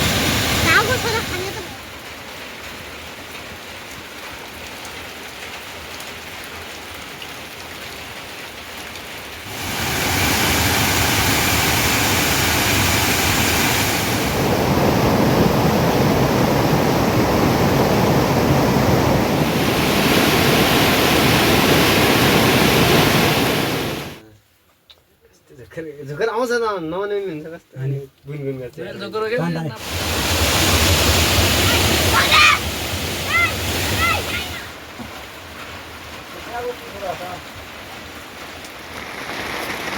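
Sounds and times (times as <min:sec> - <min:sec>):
rain hiss: 0:00.0 - 0:24.2, 0:29.8 - 0:39.9.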